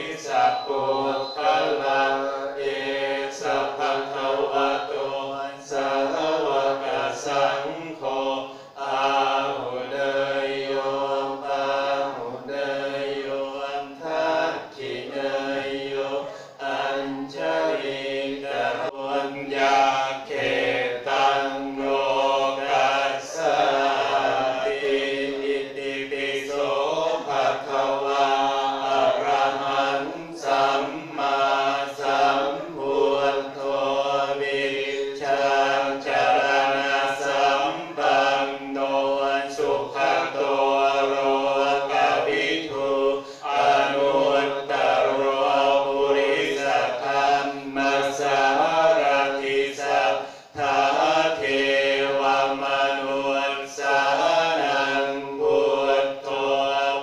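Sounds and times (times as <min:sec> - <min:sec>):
many voices chanting together: 0:00.0 - 0:57.0.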